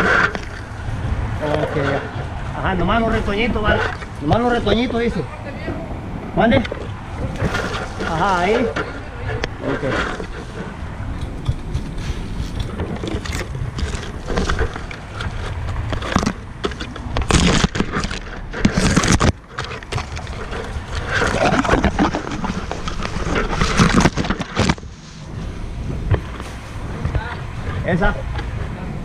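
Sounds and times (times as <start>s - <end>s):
branches rustling and scraping: 0.0s - 29.0s
steady low rumble: 0.0s - 29.0s.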